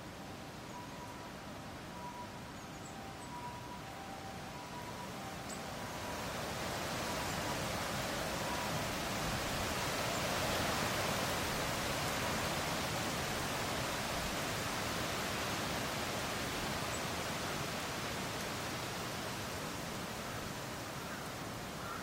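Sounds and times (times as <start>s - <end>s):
wind rustling tree leaves: 0.0s - 22.0s.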